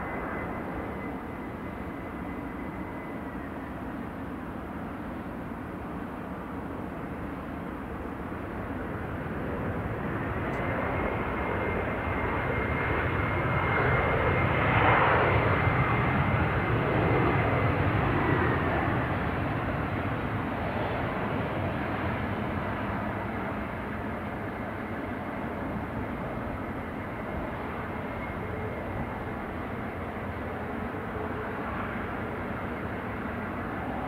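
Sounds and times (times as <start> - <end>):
jet engine high whine: 0.0 - 34.0
jet engines rumbling: 0.0 - 34.0.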